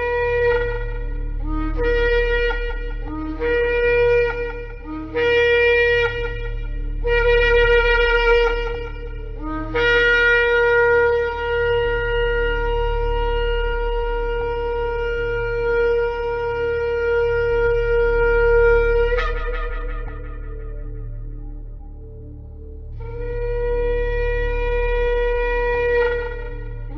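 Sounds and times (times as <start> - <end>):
low steady hum: 0.0 - 26.9
shofar blasts: 0.0 - 26.9.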